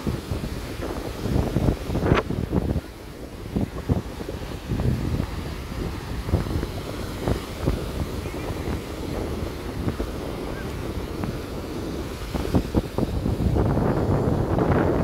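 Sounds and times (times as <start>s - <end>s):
surf breaking on a beach: 0.0s - 15.0s
wind buffeting microphone: 0.0s - 15.0s.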